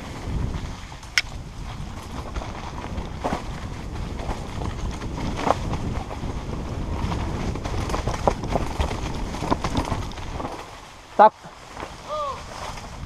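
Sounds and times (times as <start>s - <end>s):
bike knocks and rattles: 0.0s - 10.9s, 11.6s - 13.0s
wind rumbling on microphone: 0.0s - 13.0s.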